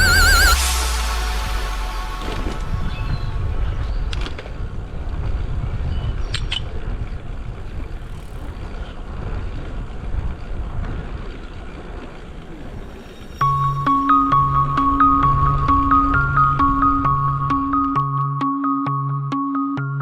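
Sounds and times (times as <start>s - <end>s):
wind rumbling on microphone: 0.6s - 18.2s.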